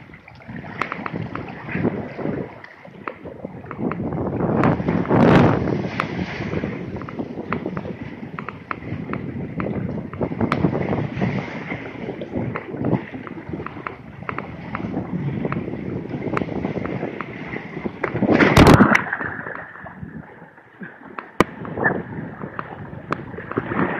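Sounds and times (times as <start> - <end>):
water rushing and splashing: 0.0 - 23.9.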